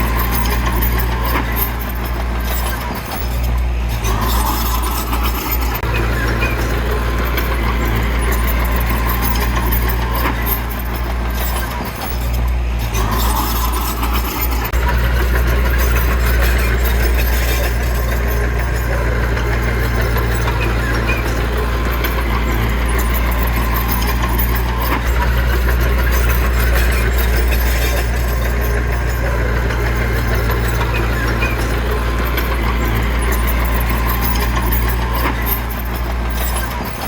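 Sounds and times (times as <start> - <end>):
heavy diesel machinery droning: 0.0 - 37.0.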